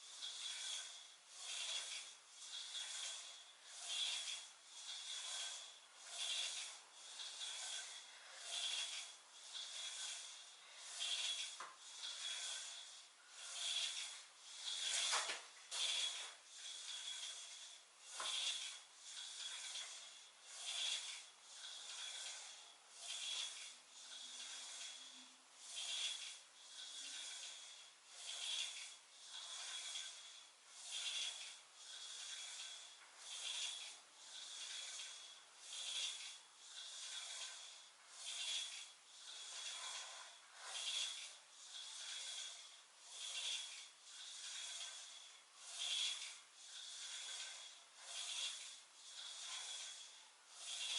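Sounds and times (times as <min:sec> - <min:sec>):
rasping hissing exercise sound: 0:00.0 - 0:50.9.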